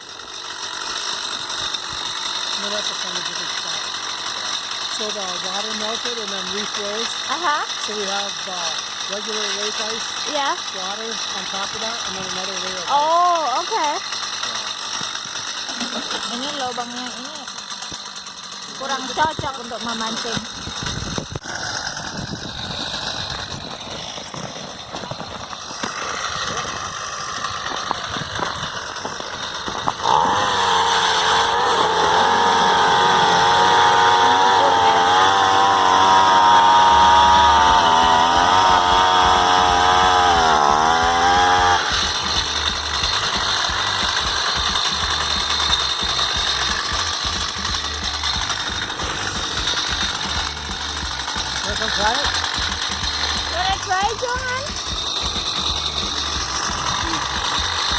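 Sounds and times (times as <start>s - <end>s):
ice auger engine revving: 0.0s - 57.9s.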